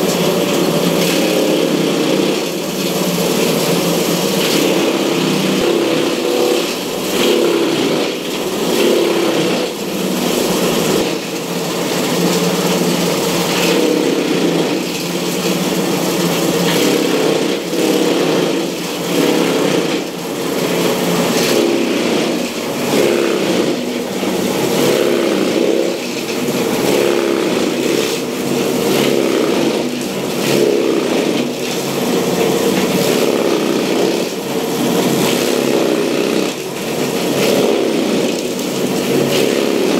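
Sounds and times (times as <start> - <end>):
chaff cutter chopping straw: 0.0 - 39.9.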